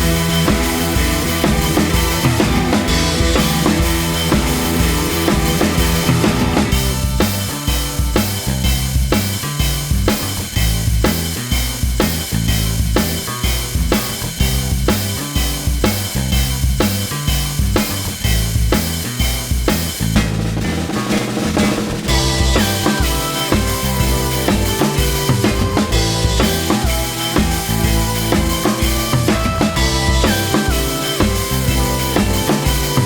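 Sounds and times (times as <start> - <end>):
drum kit beat: 0.0 - 33.0
pulsing bass line: 0.0 - 33.0.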